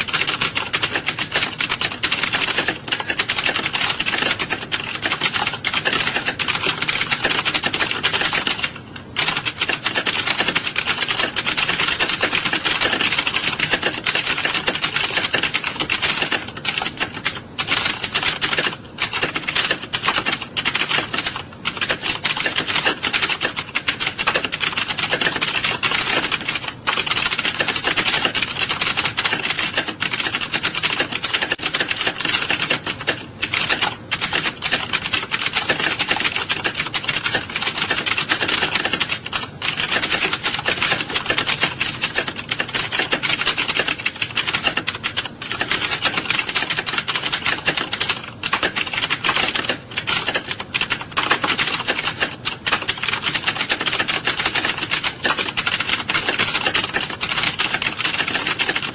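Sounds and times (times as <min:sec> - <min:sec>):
many people typing on keyboards: 0:00.0 - 0:58.9.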